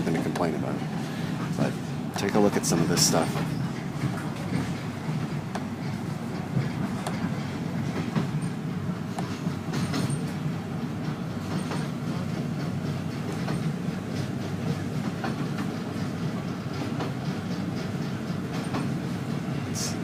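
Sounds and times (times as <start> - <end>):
train rumbling on track: 0.0 - 20.0
train wheel clicks and rattles: 0.0 - 20.0.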